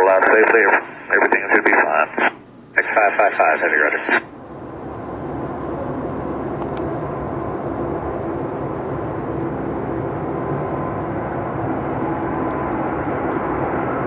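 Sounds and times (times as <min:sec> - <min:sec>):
jet airliner engines: 0:00.0 - 0:14.0.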